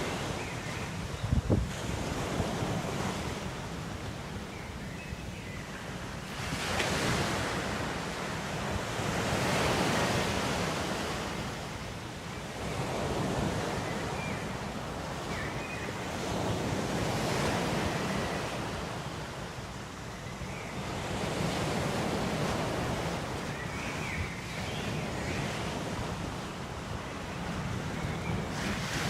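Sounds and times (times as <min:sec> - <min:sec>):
ocean waves washing on shore: 0:00.0 - 0:29.0.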